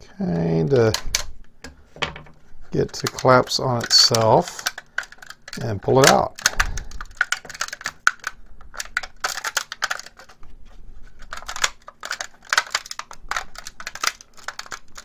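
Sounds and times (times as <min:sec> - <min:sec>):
plastic crackling and snapping: 0:00.3 - 0:15.0.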